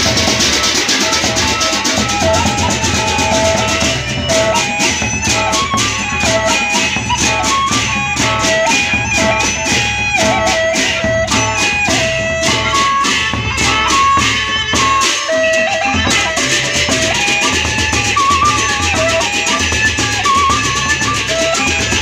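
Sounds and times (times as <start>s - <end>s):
bamboo flute melody: 0.0s - 22.0s
large drums: 0.0s - 22.0s.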